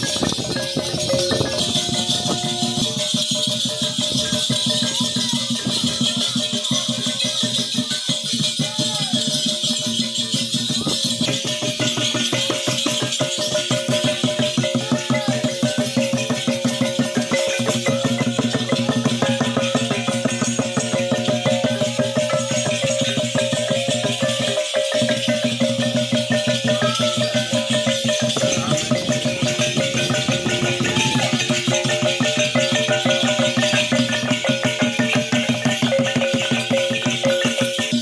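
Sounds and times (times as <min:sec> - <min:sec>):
ankle rattles jingling: 0:00.0 - 0:38.0
hand drum: 0:00.0 - 0:38.0.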